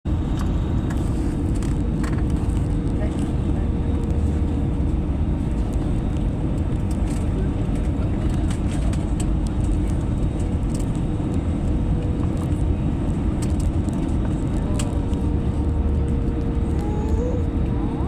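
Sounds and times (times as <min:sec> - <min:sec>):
airliner cabin rumble: 0:00.1 - 0:18.0.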